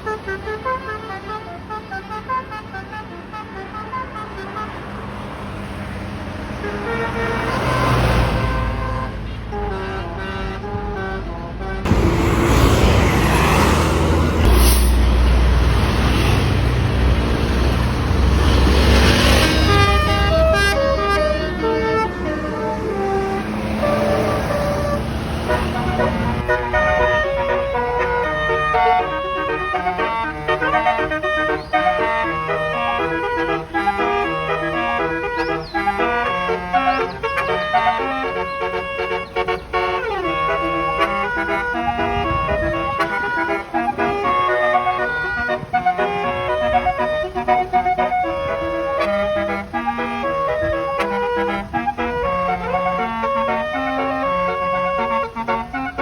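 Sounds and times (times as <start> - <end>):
bus air horn playing tune: 0.0 - 5.4, 6.4 - 56.0
bus engine rumbling: 0.0 - 56.0.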